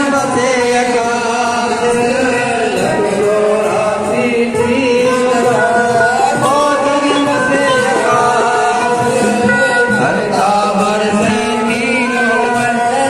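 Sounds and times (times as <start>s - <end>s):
devotional singing with music: 0.0s - 13.0s.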